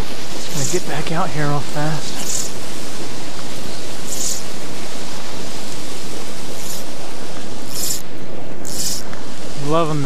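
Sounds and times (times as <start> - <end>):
wind on microphone: 0.0 - 10.0
fly line swishing: 0.1 - 1.0, 1.7 - 9.1.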